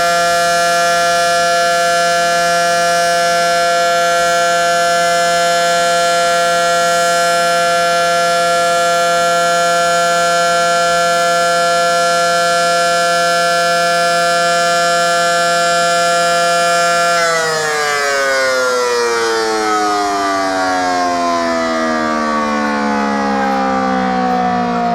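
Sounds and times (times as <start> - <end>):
warning siren steady chord: 0.0 - 24.9.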